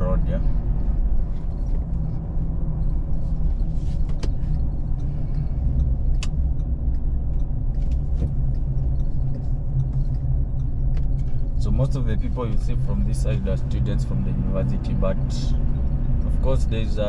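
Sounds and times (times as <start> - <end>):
engine and road noise rumble: 0.0 - 17.0.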